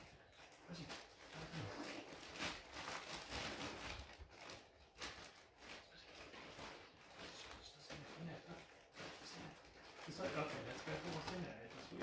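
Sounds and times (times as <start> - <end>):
wrapping paper rustling and crinkling: 0.0 - 12.0.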